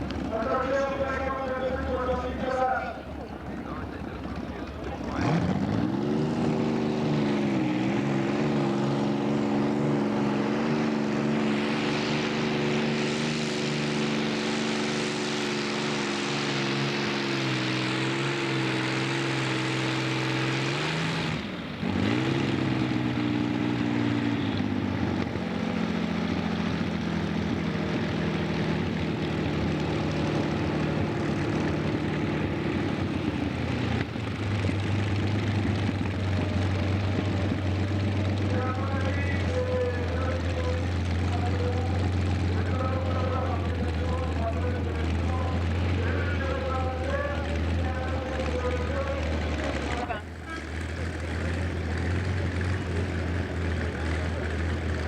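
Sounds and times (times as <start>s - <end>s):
tractor engine running flat out: 0.0s - 55.0s.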